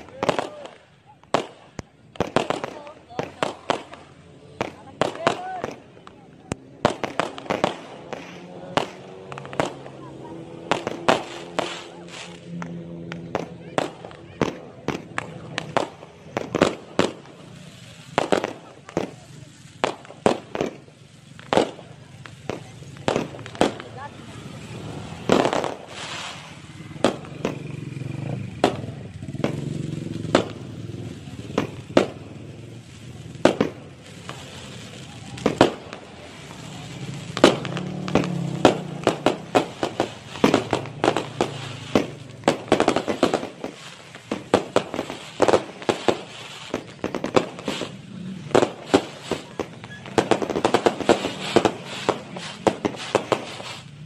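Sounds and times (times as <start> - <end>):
fireworks bangs and crackles: 0.0 - 54.0
murmur of crowd voices: 0.0 - 54.0.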